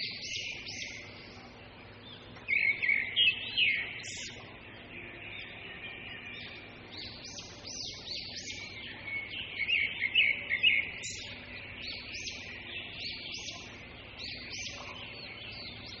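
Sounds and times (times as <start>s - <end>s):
birds chirping: 0.0s - 16.0s
high-pitched background bird chorus: 0.0s - 16.0s.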